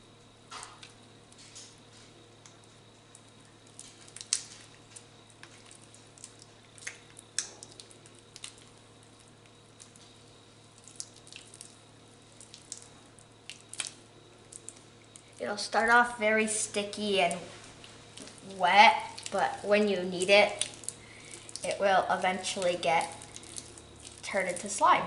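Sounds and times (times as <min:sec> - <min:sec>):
slime squelching kneaded by hand: 0:02.5 - 0:25.0.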